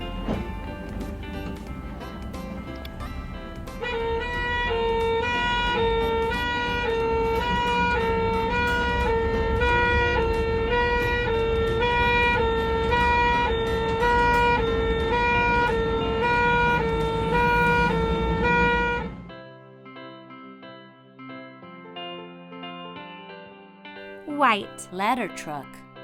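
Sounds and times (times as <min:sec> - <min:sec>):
music: 0:00.0 - 0:26.0.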